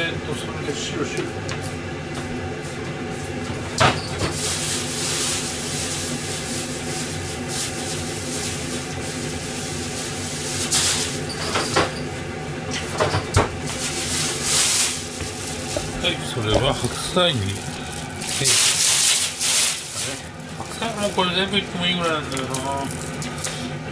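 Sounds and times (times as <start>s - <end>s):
pans simmering on gas stove: 0.0s - 23.9s.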